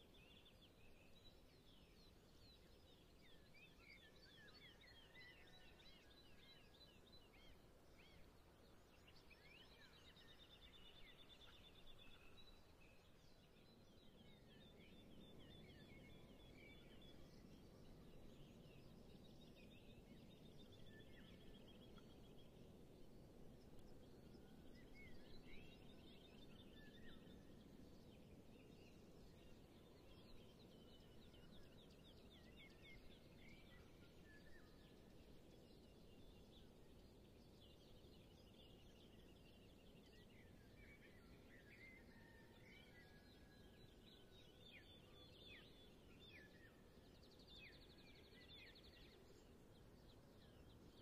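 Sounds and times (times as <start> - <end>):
faint songbirds trilling: 0.0 - 51.0
low background hiss: 0.0 - 51.0.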